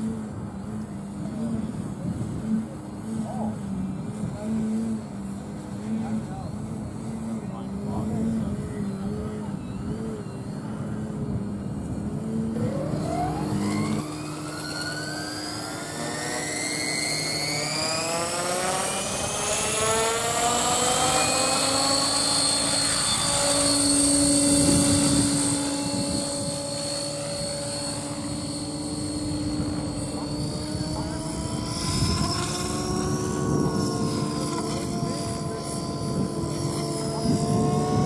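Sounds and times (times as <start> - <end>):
model helicopter rotor whine: 0.0 - 38.0
model plane propeller buzzing: 0.0 - 38.0.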